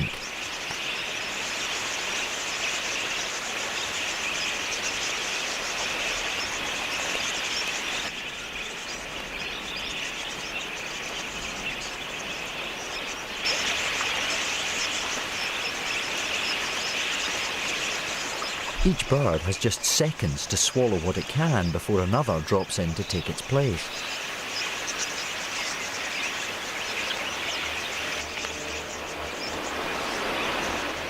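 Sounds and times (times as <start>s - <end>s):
flock of budgerigars chattering: 0.0s - 30.9s.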